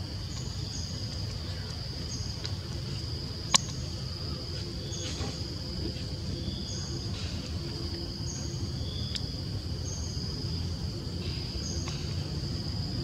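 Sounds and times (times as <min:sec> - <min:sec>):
insects buzzing: 0:00.0 - 0:13.0
low steady rumble: 0:00.0 - 0:13.0.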